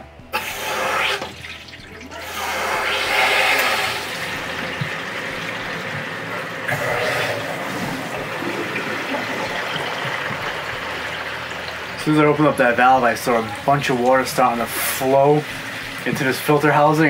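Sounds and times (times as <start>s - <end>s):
water rushing into filter housings: 0.3s - 17.0s.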